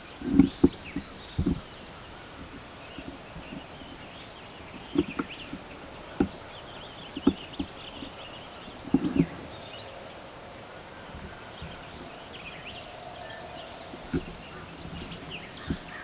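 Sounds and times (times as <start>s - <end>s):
low thuds: 0.0s - 9.6s, 11.1s - 16.0s
small birds chirping: 0.0s - 16.0s.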